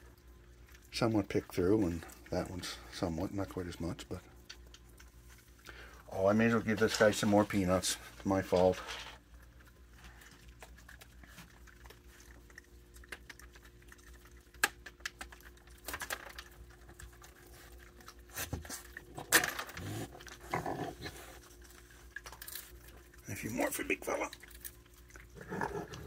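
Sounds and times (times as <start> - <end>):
animals chewing and crunching: 0.0 - 26.0.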